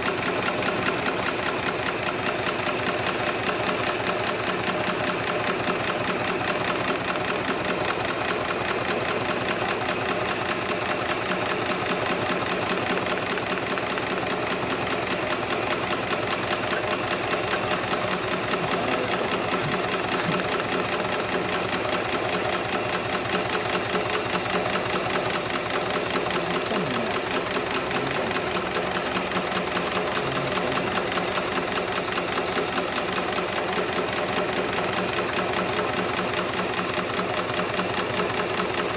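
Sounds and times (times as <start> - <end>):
sewing machine high whine: 0.0 - 38.9
sewing machine needle clatter: 0.0 - 38.9.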